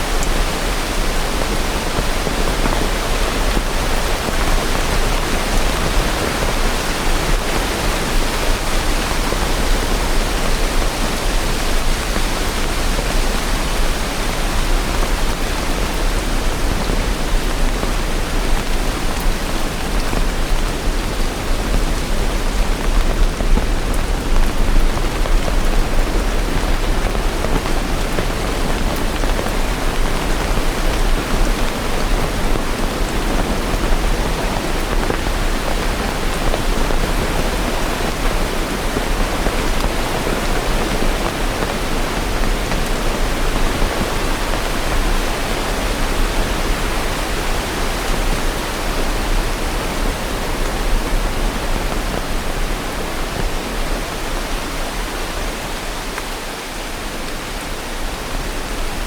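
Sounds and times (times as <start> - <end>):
heavy rain hiss: 0.0 - 59.0.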